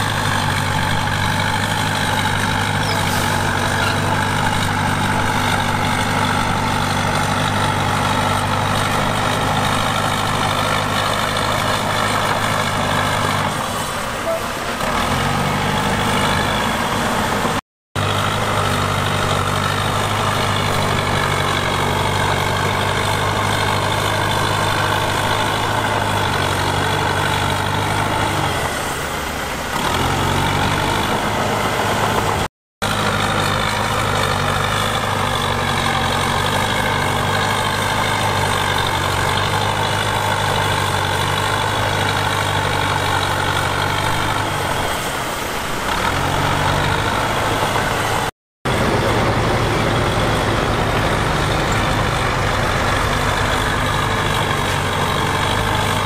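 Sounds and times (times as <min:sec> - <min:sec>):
heavy machinery diesel engine: 0:00.0 - 0:56.0.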